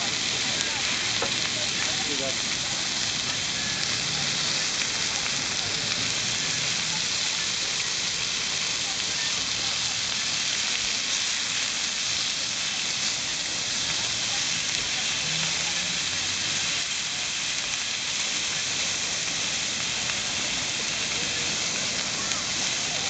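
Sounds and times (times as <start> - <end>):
beef sizzling on a grill: 0.0 - 23.0.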